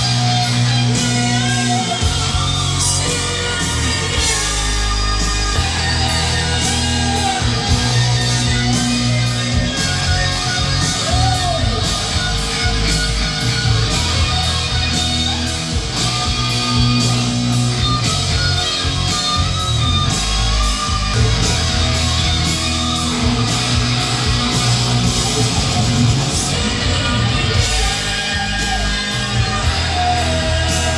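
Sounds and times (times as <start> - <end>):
rock music through speakers: 0.0 - 30.9.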